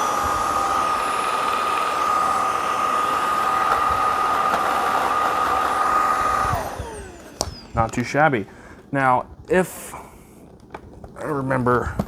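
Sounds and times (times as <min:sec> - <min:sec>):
vacuum cleaner motor whining: 0:00.0 - 0:12.0.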